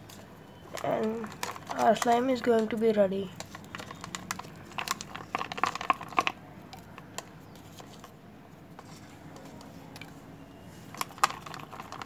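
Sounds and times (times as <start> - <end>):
slime stirred with straw: 0.2 - 2.7, 3.3 - 10.0, 10.7 - 12.0.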